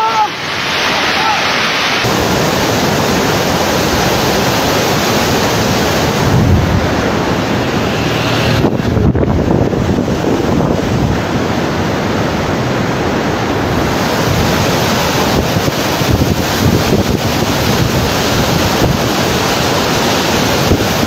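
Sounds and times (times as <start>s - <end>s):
floodwater rushing: 0.0s - 21.0s
wind buffeting microphone: 2.0s - 21.0s.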